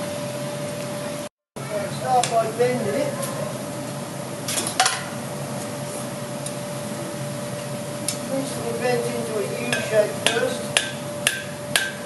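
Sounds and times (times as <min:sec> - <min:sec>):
forge hum: 0:00.0 - 0:12.0.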